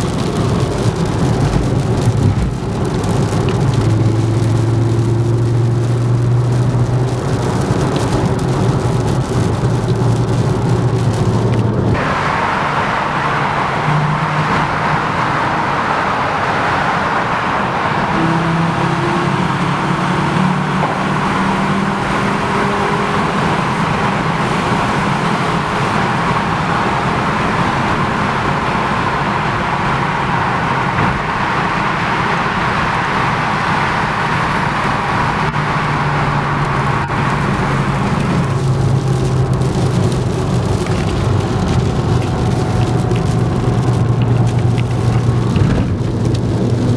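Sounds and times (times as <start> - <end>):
car engine running: 0.0 - 46.9
constant rushing noise: 0.0 - 46.9.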